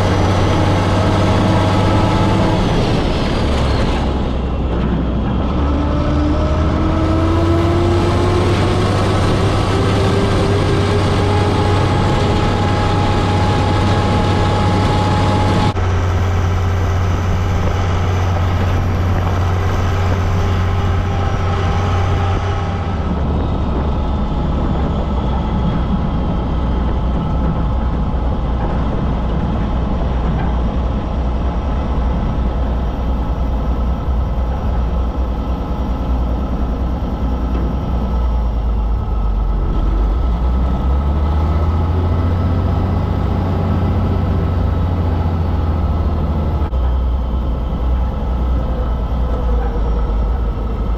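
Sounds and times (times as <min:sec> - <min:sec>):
rising whine: 0:00.0 - 0:50.9
tractor engine running: 0:00.0 - 0:50.9.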